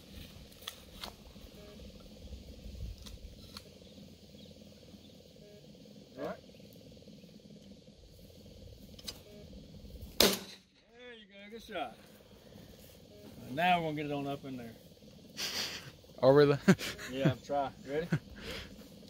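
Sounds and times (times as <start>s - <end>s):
faint low rumble: 0.0s - 19.0s.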